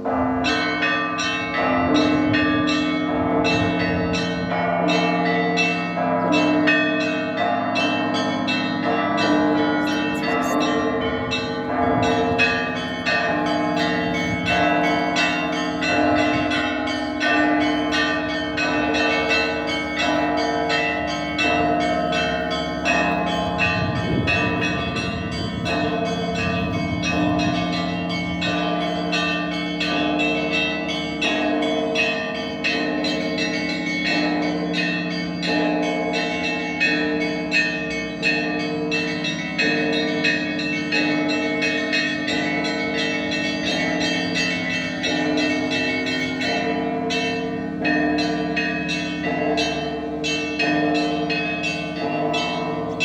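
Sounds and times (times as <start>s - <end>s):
large deep bells ringing: 0.0s - 53.0s
small bells struck rhythmically: 0.0s - 53.0s.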